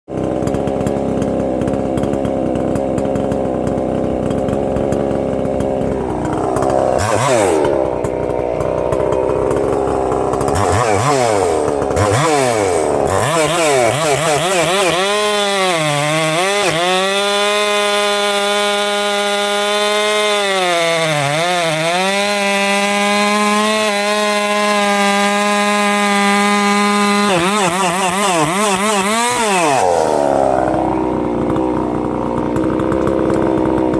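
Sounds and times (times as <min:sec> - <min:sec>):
chainsaw revving and cutting wood: 0:00.1 - 0:33.9.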